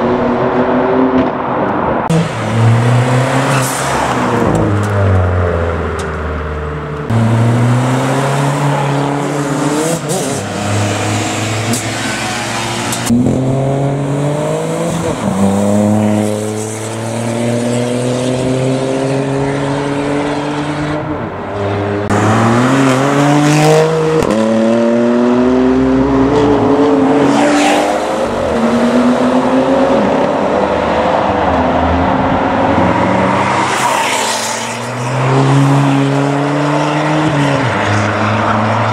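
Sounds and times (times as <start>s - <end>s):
car engines accelerating: 0.0s - 38.9s.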